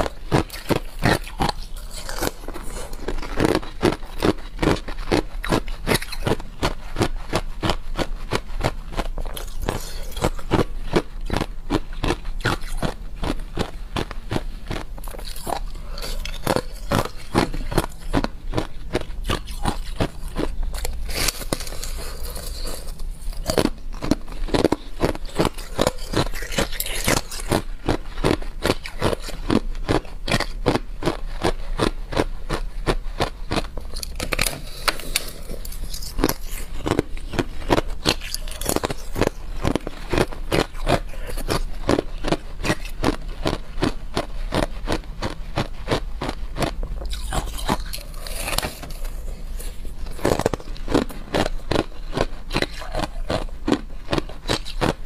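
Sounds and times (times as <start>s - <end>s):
person crunching ice with teeth: 0.0s - 55.0s.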